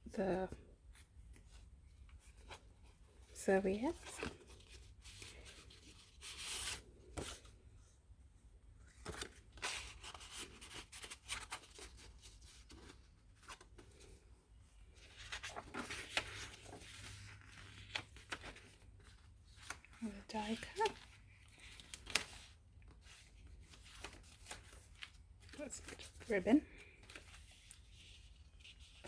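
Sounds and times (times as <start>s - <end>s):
paper rustling and crinkling: 0.9s - 7.8s, 8.8s - 29.0s.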